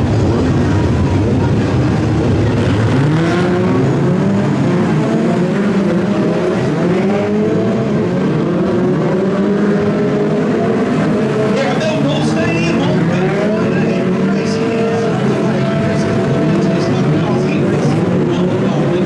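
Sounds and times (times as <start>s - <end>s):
stock car engines revving: 0.0s - 19.0s.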